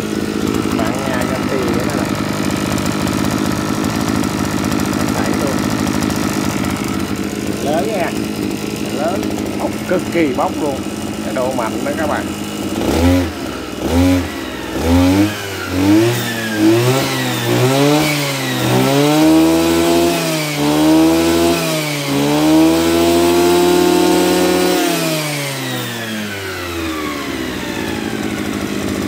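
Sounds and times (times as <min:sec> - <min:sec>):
brush cutter engine revving: 0:00.0 - 0:29.0.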